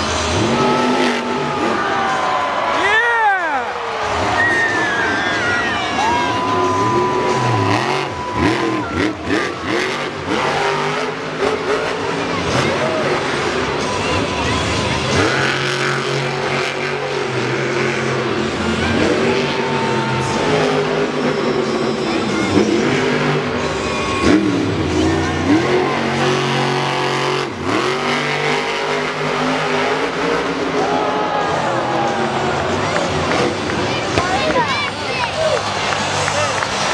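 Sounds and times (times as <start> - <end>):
truck engine revving: 0.0 - 2.8, 3.7 - 36.9
crowd din: 0.0 - 36.9.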